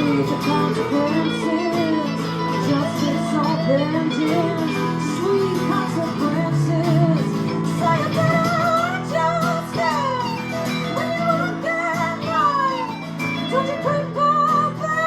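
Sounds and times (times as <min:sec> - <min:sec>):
guitar song: 0:00.0 - 0:15.0.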